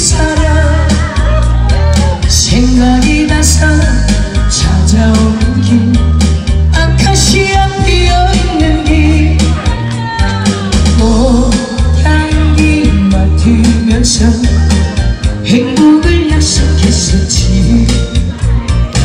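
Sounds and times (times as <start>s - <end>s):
heavy bass beat: 0.0s - 19.0s.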